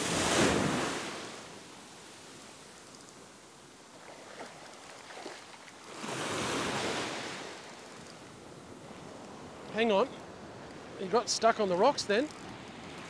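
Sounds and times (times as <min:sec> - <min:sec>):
ocean surf on sandy beach: 0:00.0 - 0:13.0.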